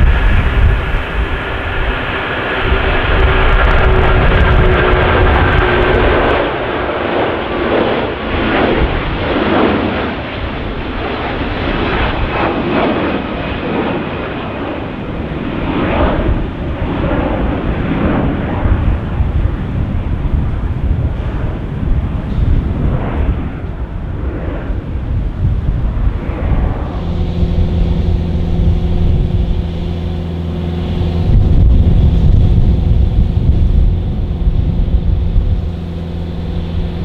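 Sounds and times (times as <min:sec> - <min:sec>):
jet engine roar: 0:00.0 - 0:37.0
jet engine whine: 0:00.0 - 0:37.0
wind buffeting microphone: 0:00.0 - 0:37.0.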